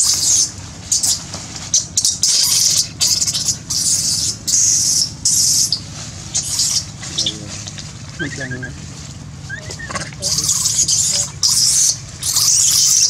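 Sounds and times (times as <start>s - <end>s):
baby monkey screeching: 0.0s - 7.6s, 9.4s - 13.0s
low hum: 0.1s - 12.9s.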